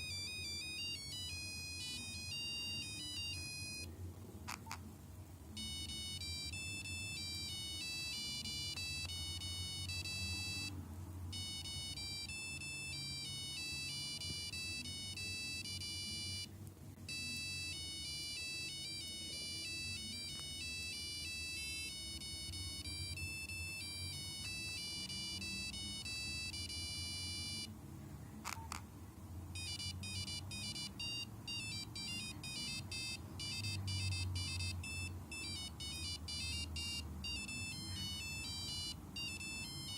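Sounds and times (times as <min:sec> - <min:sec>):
monophonic phone ringtone: 0:00.0 - 0:03.9, 0:05.6 - 0:16.5, 0:17.1 - 0:27.7, 0:29.6 - 0:39.9.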